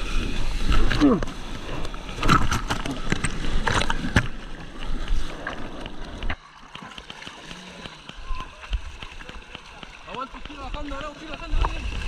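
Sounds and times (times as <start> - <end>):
sea water splashing and sloshing: 0.0 - 12.0.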